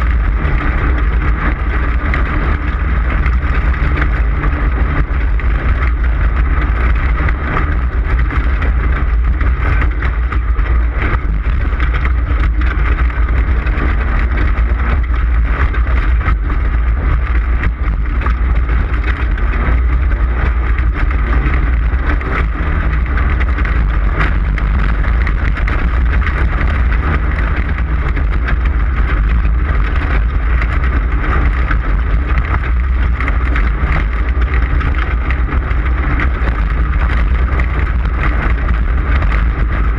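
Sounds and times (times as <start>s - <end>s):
knocks and rattles: 0.0s - 39.9s
race vehicle engine running hard: 0.0s - 39.9s
wind rumble on microphone: 0.0s - 39.9s.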